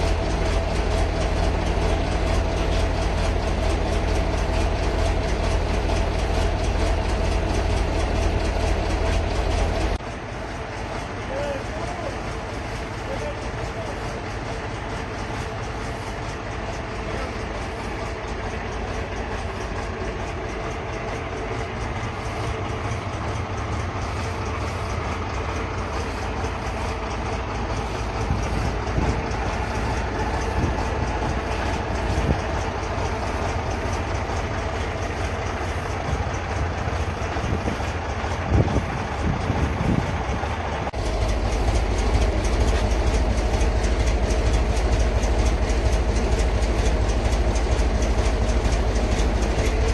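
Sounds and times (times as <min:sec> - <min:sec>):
diesel truck engine clattering: 0:00.0 - 0:49.9
engine knocks: 0:00.0 - 0:49.9.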